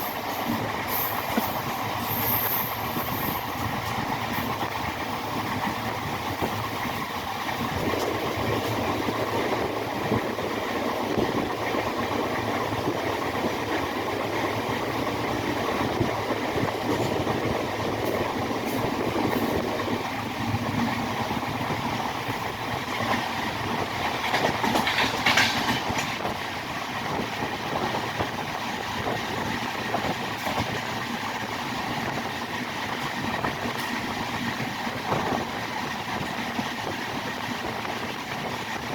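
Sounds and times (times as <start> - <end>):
train wheels on rails: 0.0 - 38.9.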